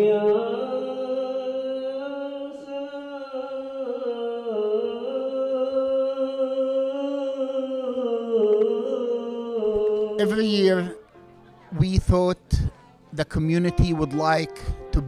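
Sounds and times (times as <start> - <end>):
person chanting: 0.0 - 11.1, 11.8 - 15.0.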